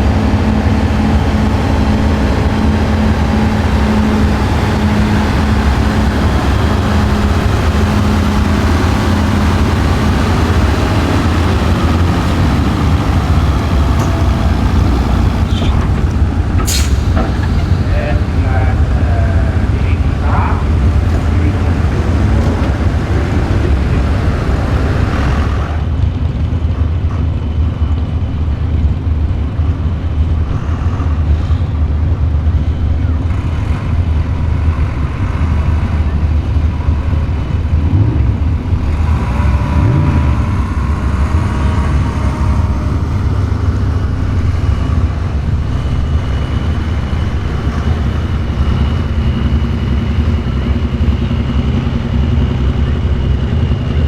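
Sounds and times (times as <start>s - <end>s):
tractor engine revving: 0.0s - 54.0s
tractor engine running: 0.0s - 54.0s.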